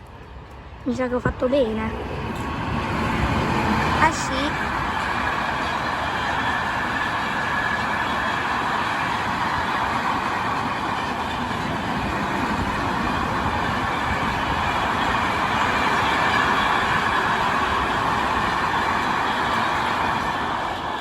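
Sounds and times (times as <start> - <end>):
freight train passing: 0.0 - 21.0.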